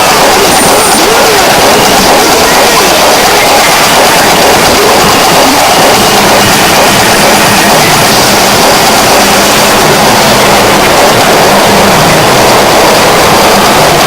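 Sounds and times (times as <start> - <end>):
distorted electronic noise: 0.0 - 14.0.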